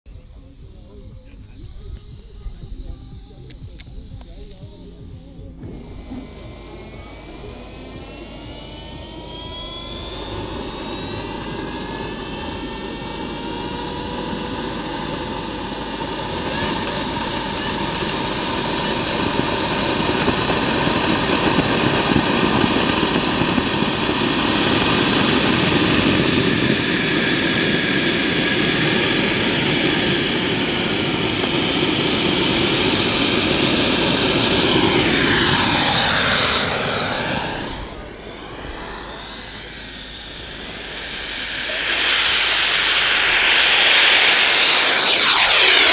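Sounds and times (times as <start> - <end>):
jet turbine whine: 0.1 - 45.9
rushing jet noise: 5.7 - 45.9.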